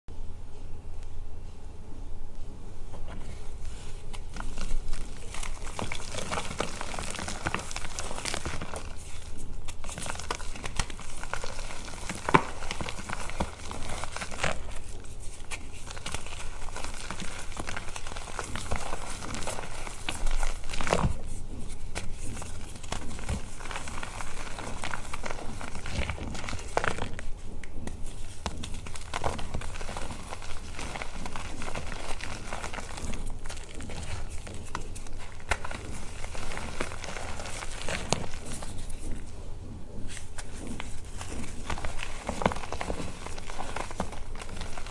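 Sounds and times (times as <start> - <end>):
chalk crunching and crumbling: 3.0 - 39.4, 40.0 - 44.9
gritty rubbing: 3.0 - 44.9.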